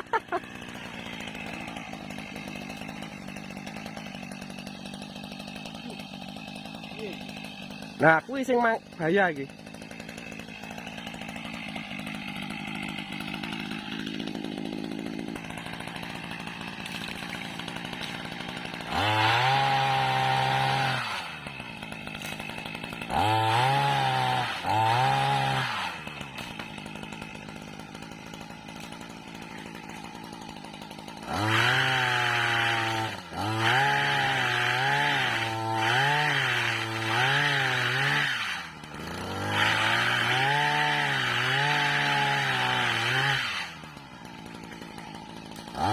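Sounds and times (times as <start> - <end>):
small petrol engine revving: 0.0 - 45.9.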